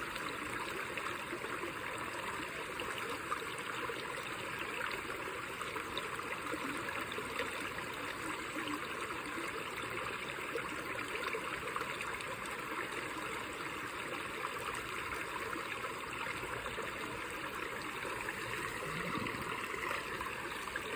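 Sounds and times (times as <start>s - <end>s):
stream water running: 0.0s - 20.9s.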